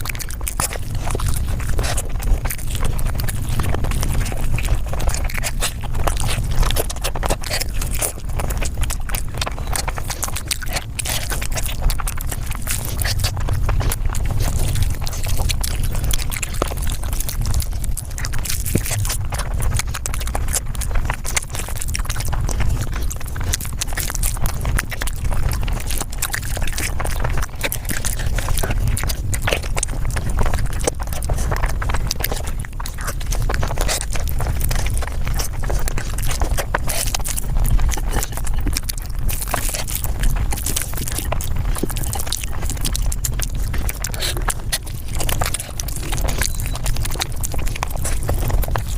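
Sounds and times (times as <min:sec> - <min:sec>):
rapid chewing and mouth clicks: 0:00.0 - 0:48.9
steady low rumble: 0:00.0 - 0:48.9.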